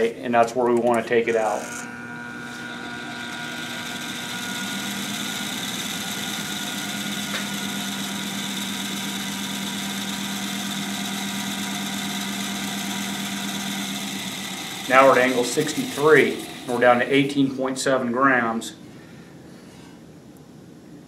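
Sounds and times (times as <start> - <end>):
balancing machine whirring hum: 0.0 - 21.0.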